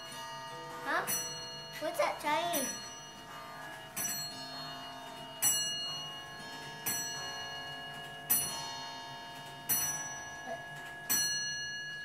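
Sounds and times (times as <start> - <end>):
clock bell striking: 0.0 - 12.0
clocks ticking: 0.0 - 12.0.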